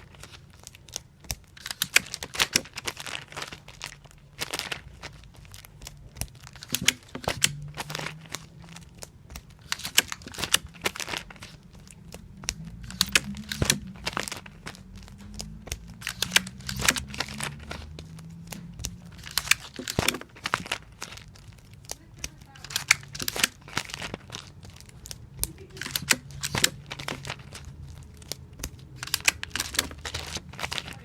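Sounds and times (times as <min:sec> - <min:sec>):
comic books handled: 0:00.0 - 0:31.0
tape pulled and torn: 0:00.2 - 0:31.0.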